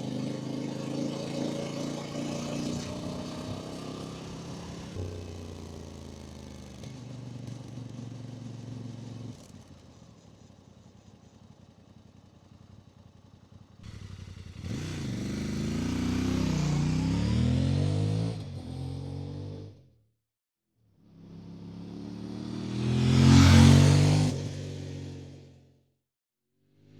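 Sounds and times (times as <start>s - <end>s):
motorcycle engine accelerating: 0.0s - 10.3s, 11.6s - 19.9s, 21.0s - 25.8s.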